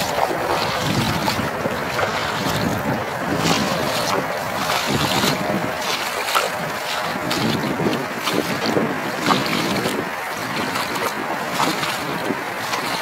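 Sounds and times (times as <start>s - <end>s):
boots splashing through water: 0.0s - 13.0s
wind buffeting microphone: 0.0s - 13.0s.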